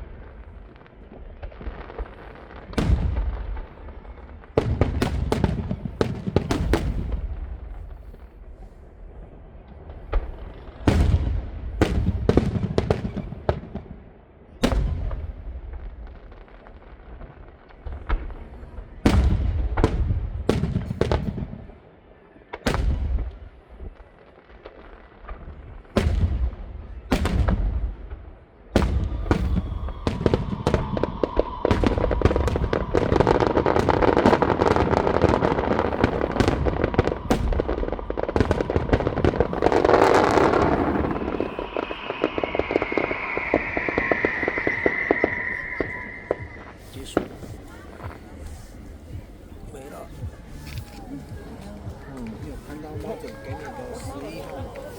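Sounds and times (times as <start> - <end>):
fireworks crackling: 0.0 - 21.8, 22.5 - 54.9
fireworks bangs with booming tails: 0.0 - 54.9.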